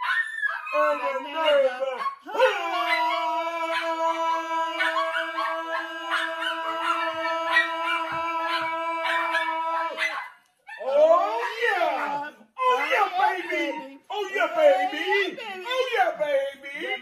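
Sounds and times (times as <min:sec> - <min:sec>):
dog howling and yelping: 0:00.0 - 0:14.0.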